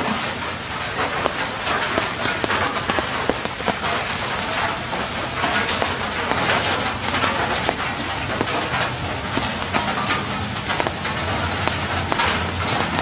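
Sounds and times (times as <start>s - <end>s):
drips splashing on wet tiles: 0.0s - 13.0s
rain falling: 0.0s - 13.0s.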